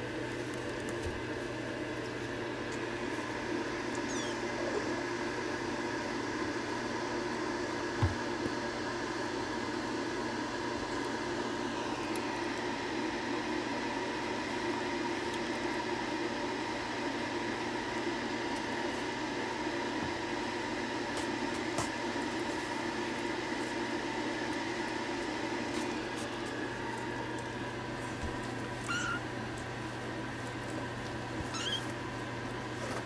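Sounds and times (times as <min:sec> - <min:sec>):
machine hum with hiss: 0:00.0 - 0:33.0.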